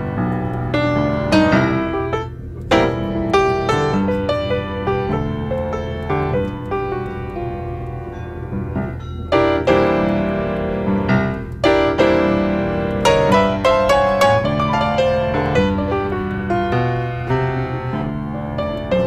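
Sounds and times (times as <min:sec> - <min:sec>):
blues piano music: 0:00.0 - 0:19.0.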